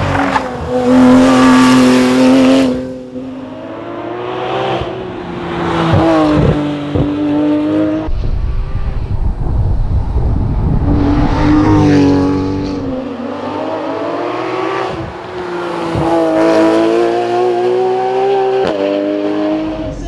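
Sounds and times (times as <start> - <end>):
racing car engine revving: 0.0 - 8.1, 10.3 - 20.0.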